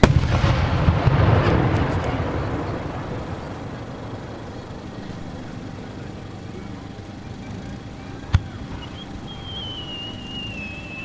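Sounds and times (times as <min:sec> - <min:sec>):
firework shell burst rumbling: 0:00.0 - 0:07.2, 0:08.2 - 0:11.0
faint firework crackles: 0:00.0 - 0:11.0.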